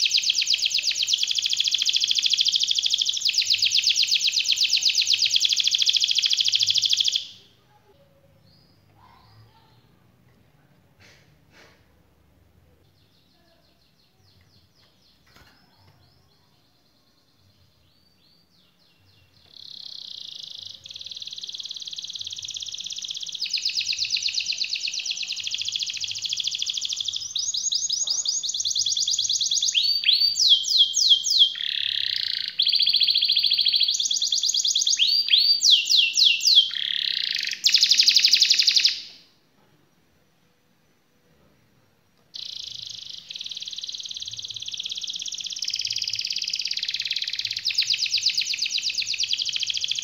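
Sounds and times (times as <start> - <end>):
canary singing trills: 0.0 - 10.0, 12.8 - 39.3, 42.3 - 50.0.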